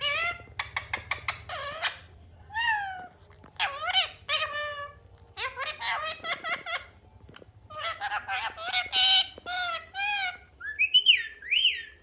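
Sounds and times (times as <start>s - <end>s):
parrot chattering: 0.0s - 7.0s, 7.7s - 12.0s.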